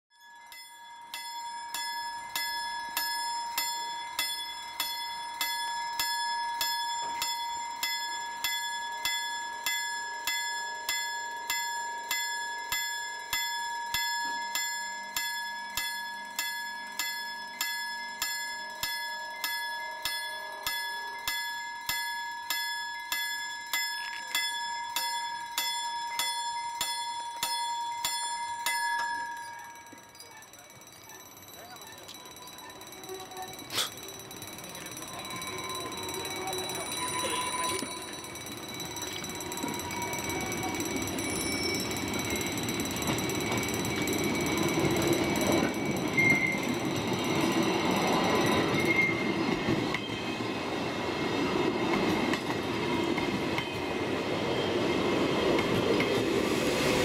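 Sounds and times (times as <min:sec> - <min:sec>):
level crossing bell ringing: 0:00.1 - 0:49.4.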